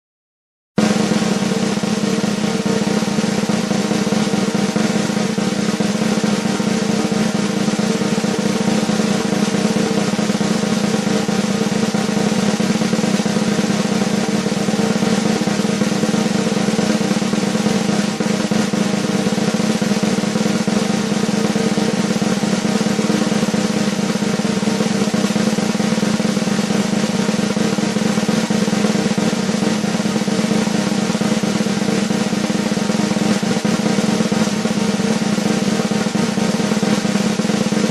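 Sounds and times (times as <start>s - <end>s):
snare drum roll: 0.8s - 37.9s.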